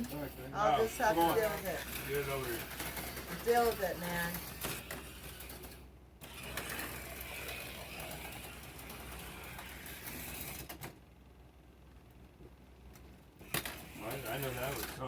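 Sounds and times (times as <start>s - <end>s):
slot car motor whirring: 0.0s - 11.0s, 13.4s - 15.0s.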